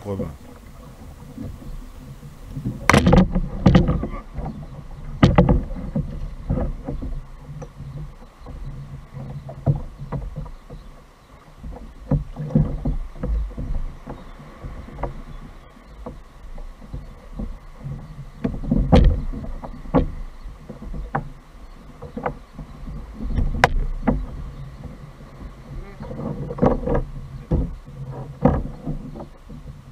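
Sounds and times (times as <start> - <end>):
paddle splashes: 0.0 - 29.9
water washing around boat: 0.0 - 29.9
gear knocking on plastic hull: 0.5 - 11.0, 11.6 - 29.9.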